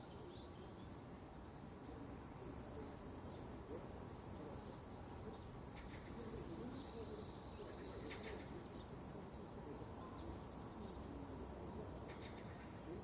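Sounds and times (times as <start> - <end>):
faint birdsong: 0.0 - 13.0
high background hiss: 0.0 - 13.0.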